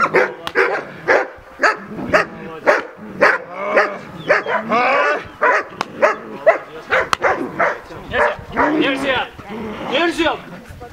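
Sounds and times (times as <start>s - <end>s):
dog barking: 0.0s - 8.9s
dog whining barks: 0.0s - 8.9s.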